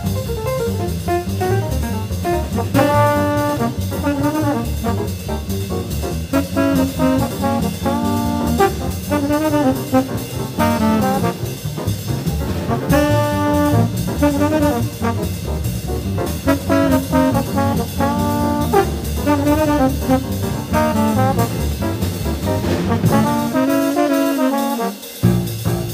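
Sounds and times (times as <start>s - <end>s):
bass: 0.0s - 25.9s
drums: 0.0s - 25.9s
jazz trombone: 0.0s - 25.9s.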